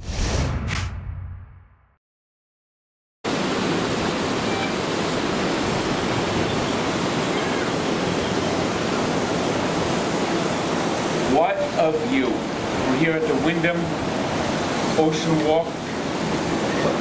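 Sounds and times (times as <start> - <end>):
ocean surf: 3.3 - 17.0
sea wind: 3.3 - 17.0.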